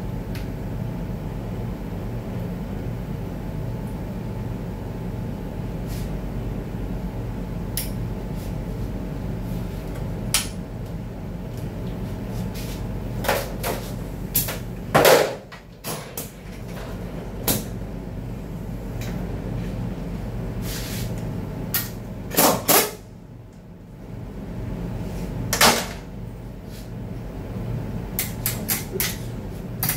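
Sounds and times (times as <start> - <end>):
workshop machinery hum: 0.0 - 29.9.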